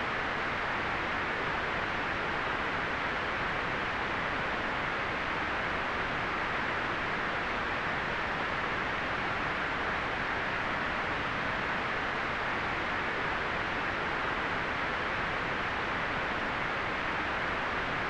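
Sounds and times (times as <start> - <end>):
white noise hiss: 0.0 - 18.0.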